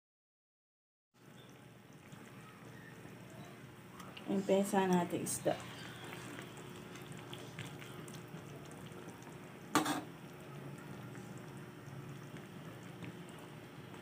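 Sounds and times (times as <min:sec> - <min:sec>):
broth bubbling in pot: 0:01.2 - 0:14.0.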